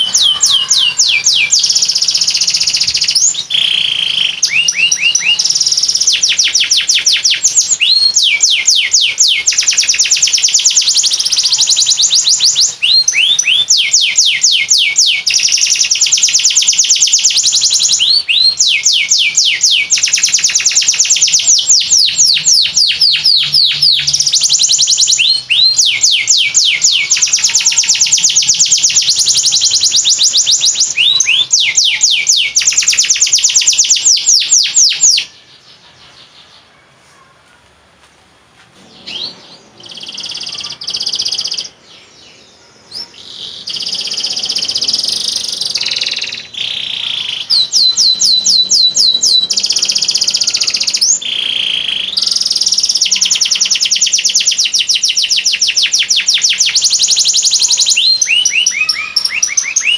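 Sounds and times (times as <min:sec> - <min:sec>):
canary singing rolling trills: 0:00.0 - 0:37.4, 0:38.8 - 0:59.9.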